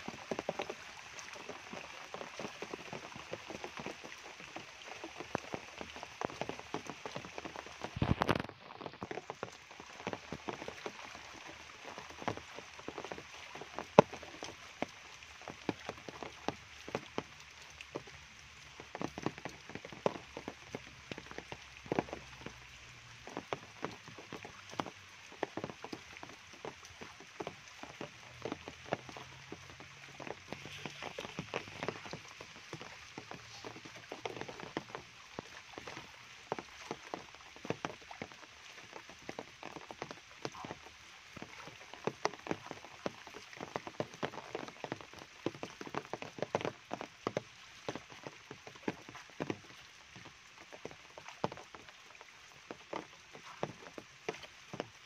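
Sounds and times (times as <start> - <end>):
heavy raindrops striking: 0.0 - 55.0
steady rain on foliage: 0.0 - 55.0.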